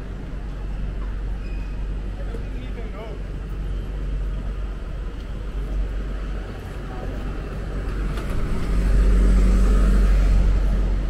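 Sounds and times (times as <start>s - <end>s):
city street hum: 0.0s - 11.0s.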